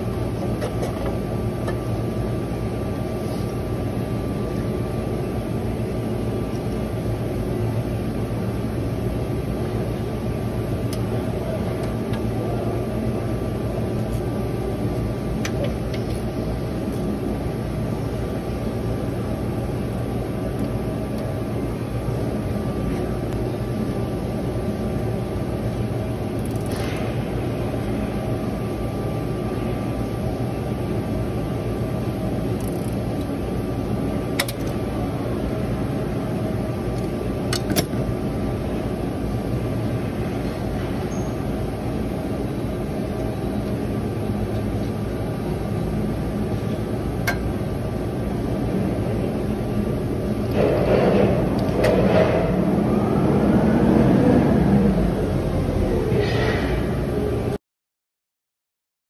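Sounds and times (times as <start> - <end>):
mechanical hum with whine: 0.0 - 57.6.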